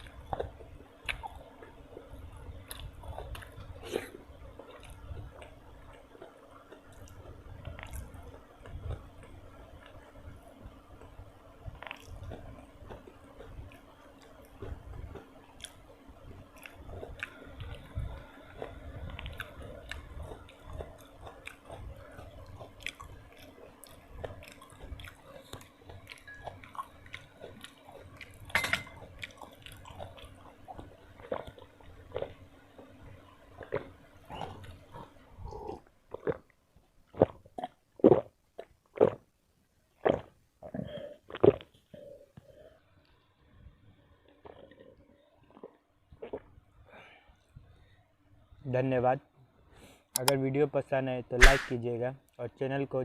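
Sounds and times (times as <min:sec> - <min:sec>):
chewing and biting food: 0:00.0 - 0:39.3, 0:39.9 - 0:43.2, 0:44.2 - 0:46.7
faint steady hum: 0:00.0 - 0:53.0.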